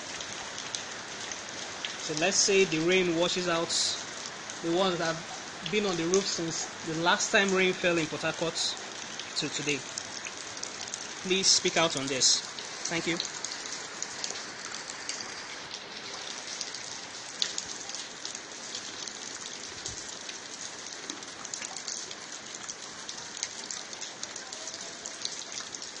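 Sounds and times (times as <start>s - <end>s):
rain on wet concrete: 0.0s - 26.0s.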